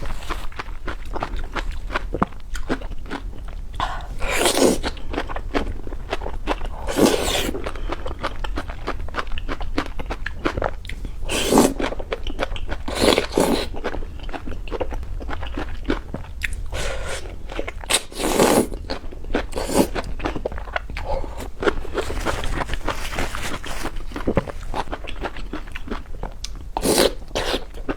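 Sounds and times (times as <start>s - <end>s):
crackle of chewing: 0.0s - 27.9s.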